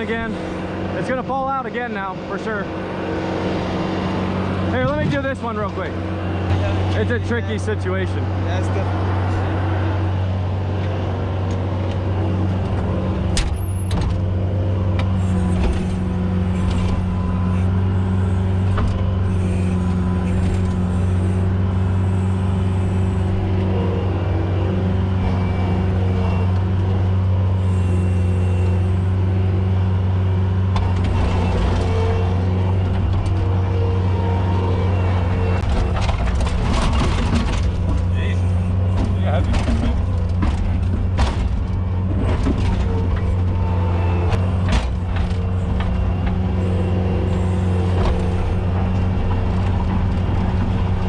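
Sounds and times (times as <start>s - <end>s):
skid steer engine running: 0.0s - 51.0s.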